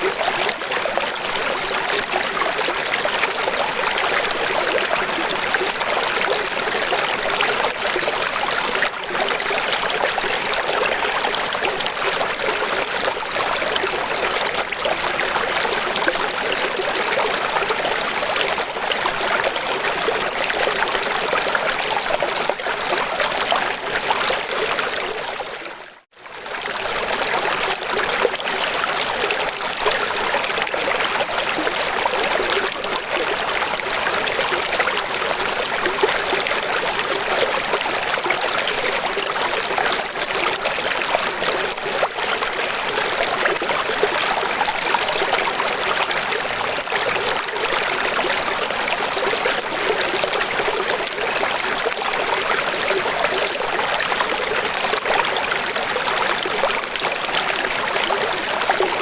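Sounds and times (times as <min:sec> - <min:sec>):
rush of running water: 0:00.0 - 0:59.0.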